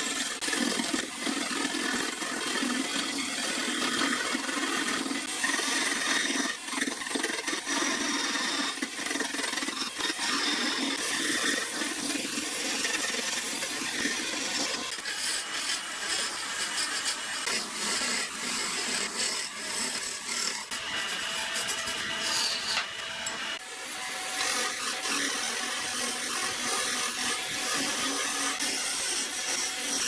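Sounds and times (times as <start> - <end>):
tool rasping on wood: 0.0 - 23.4, 24.2 - 30.0.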